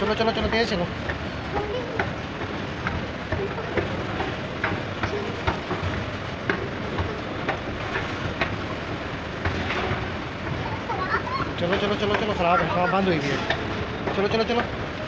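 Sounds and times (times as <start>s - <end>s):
steady background rumble: 0.0s - 15.0s.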